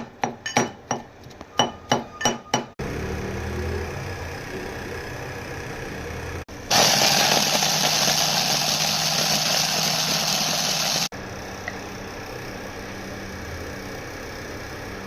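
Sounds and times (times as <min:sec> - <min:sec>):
small electric kitchen motor running: 0:02.8 - 0:15.0.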